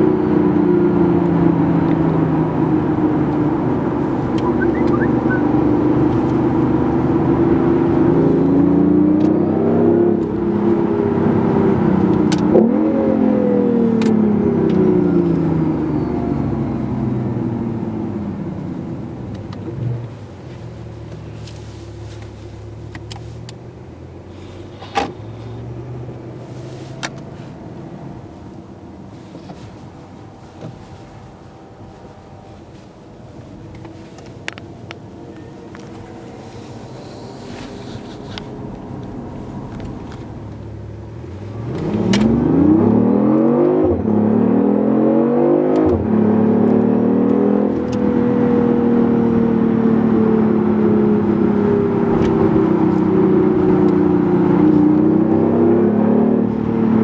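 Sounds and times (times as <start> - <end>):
car engine driving: 0.0 - 57.0.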